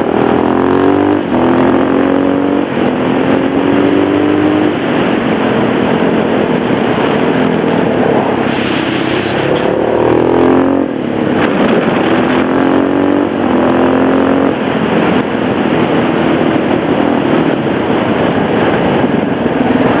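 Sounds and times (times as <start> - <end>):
constant rushing noise: 0.0 - 20.0
motorcycle engine pulling hard: 0.0 - 20.0.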